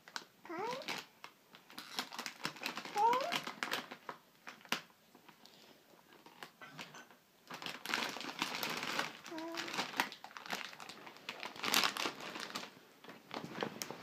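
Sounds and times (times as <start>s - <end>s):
plastic packet crinkling: 0.0s - 5.4s, 6.1s - 14.0s.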